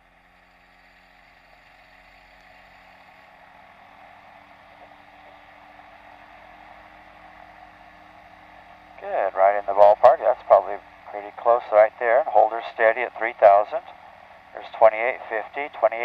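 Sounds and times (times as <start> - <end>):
muffled aircraft engine drone: 0.0 - 16.0.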